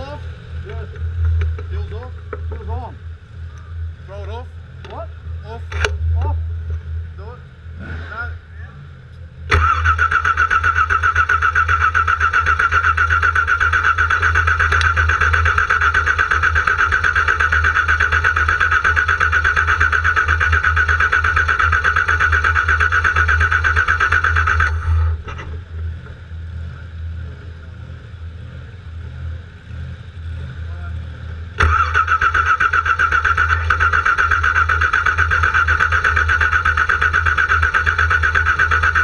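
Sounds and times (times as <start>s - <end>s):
car engine cranking: 0.0s - 6.9s, 7.7s - 28.8s, 29.7s - 39.0s.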